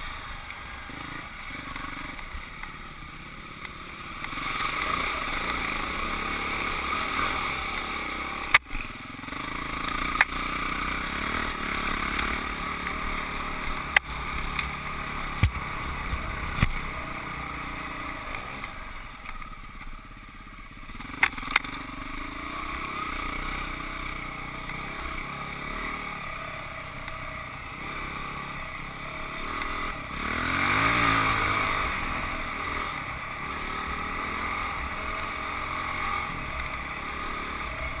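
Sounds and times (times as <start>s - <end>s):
dirt bike engine revving: 0.0s - 19.2s, 20.8s - 38.0s.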